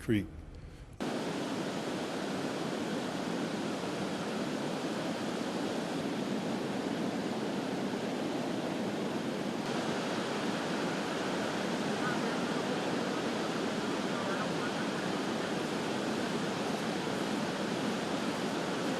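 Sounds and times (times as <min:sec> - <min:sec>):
creek floodwater rushing: 0:01.0 - 0:18.9.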